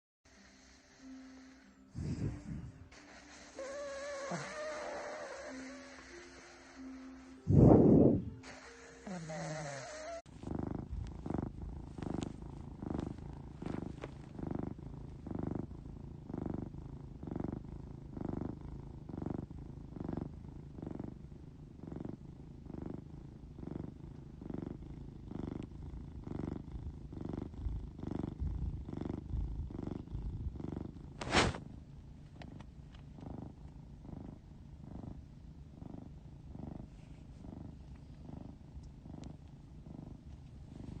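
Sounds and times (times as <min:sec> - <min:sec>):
cat purring and snoring: 0:00.3 - 0:41.0.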